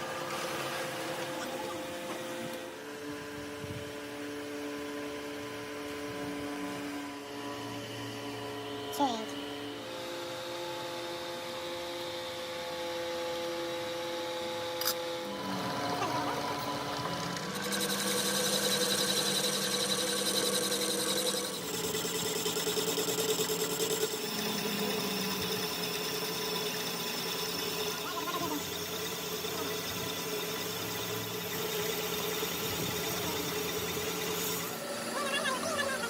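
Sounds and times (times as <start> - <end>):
workshop machine humming: 0.0 - 36.0.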